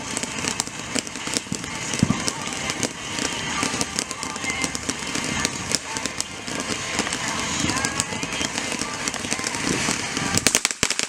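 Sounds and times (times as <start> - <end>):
deep firework boom: 0.0 - 11.0
fireworks crackling pops: 0.0 - 11.0.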